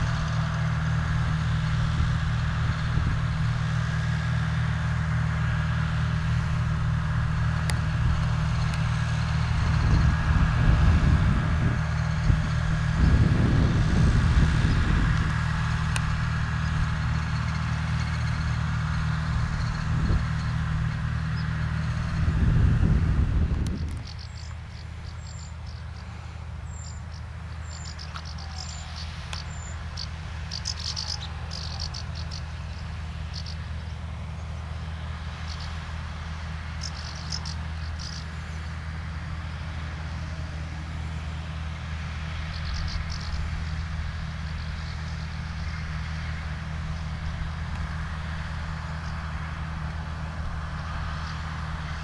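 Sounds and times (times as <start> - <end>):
tractor engine drone: 0.0 - 52.0
high chirps of birds or insects: 6.2 - 22.9, 23.6 - 52.0.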